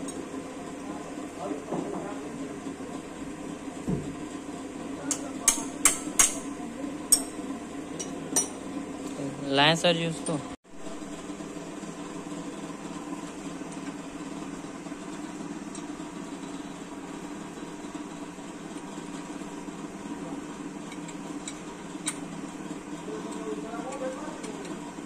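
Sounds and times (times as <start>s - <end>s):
mechanical background hum: 0.0s - 25.0s.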